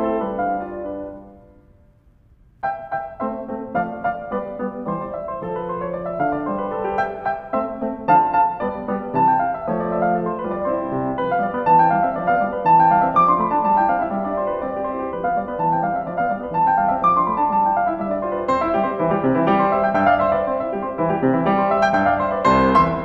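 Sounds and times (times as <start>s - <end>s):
solo piano music: 0.0s - 23.0s.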